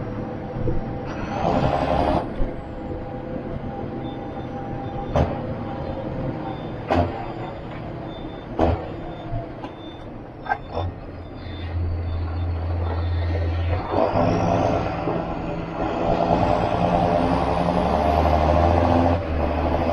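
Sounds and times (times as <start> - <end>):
tractor diesel engine drone: 0.0 - 19.9.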